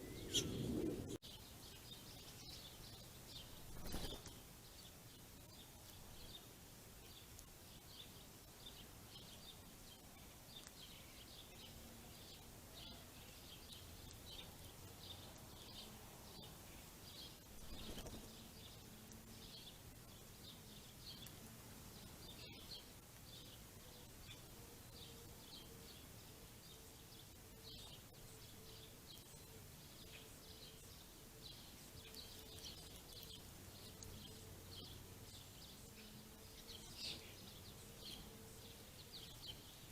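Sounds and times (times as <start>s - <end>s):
faint low hum: 0.0s - 39.9s
small songbirds chirping: 0.0s - 39.9s.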